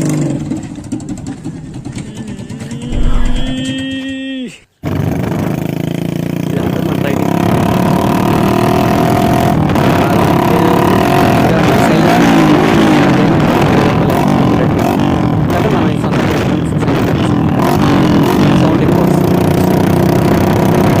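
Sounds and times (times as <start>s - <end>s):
motorcycle engine revving: 0.0s - 3.7s, 4.9s - 21.0s.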